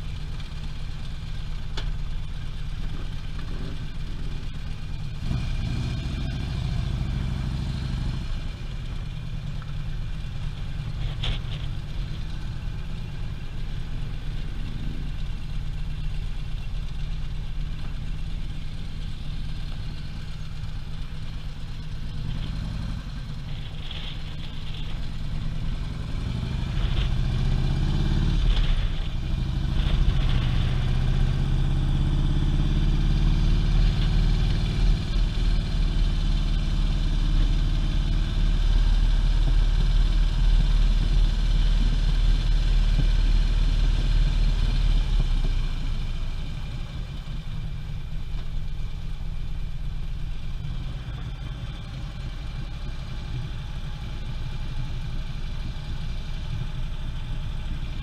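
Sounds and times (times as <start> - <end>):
motorcycle engine running low: 0.0 - 58.0.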